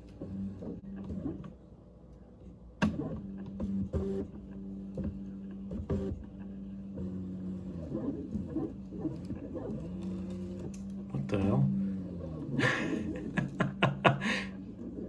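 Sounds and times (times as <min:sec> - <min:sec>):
stepper motor hum: 0:02.8 - 0:15.0.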